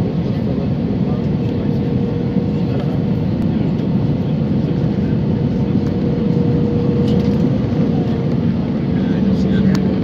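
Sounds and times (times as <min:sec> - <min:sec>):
airplane cabin roar: 0:00.0 - 0:10.0.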